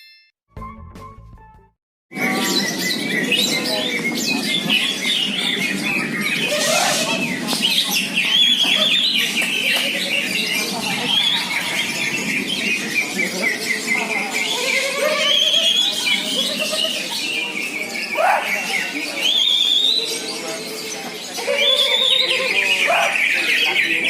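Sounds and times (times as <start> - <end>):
murmur of voices: 2.1 - 24.0
birds chirping and whistling: 2.2 - 24.0.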